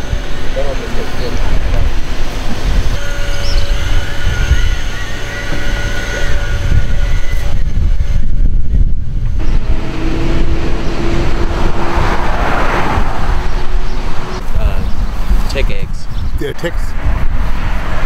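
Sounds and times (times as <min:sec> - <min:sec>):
moving vehicle noise: 0:00.0 - 0:18.0
wind buffeting microphone: 0:00.0 - 0:18.0.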